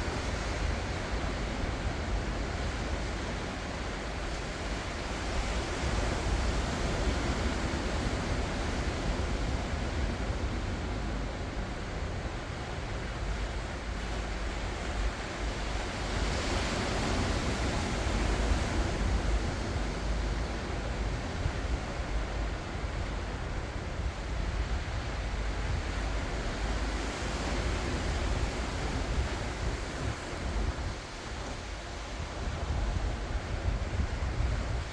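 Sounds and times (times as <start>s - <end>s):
ocean waves breaking: 0.0s - 34.9s
wind rumble on microphone: 0.0s - 34.9s.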